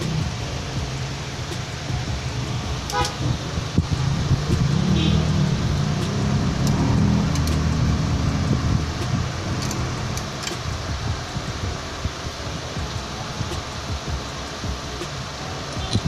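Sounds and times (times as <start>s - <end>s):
passing vehicle engine rumbling: 0.0s - 15.8s.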